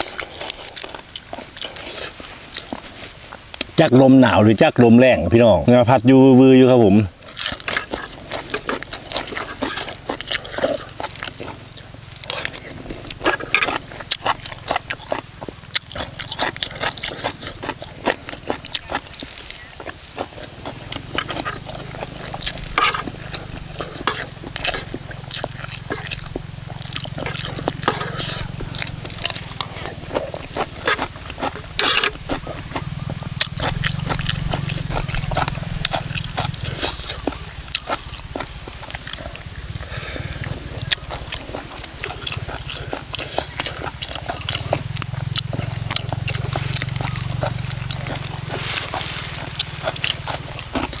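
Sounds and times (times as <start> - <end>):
person chewing crunchy food: 0.0 - 51.0.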